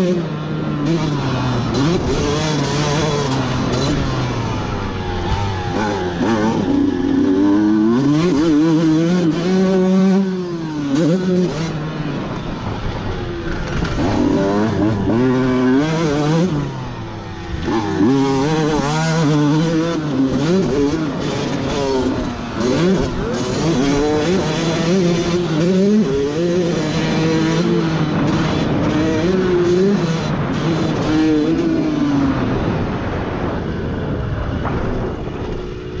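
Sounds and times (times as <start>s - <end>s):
motocross bike engine revving: 0.0s - 33.7s.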